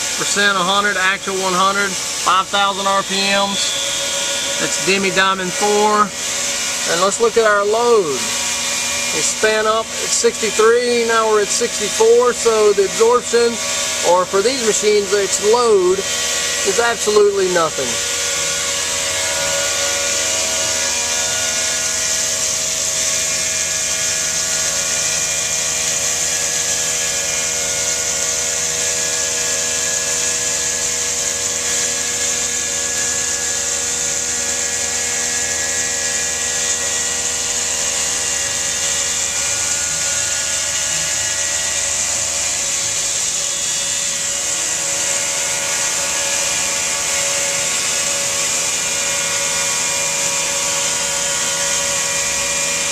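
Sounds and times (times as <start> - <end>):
hiss of grinding and spray: 0.0 - 52.9
stone router spindle whine: 0.0 - 52.9.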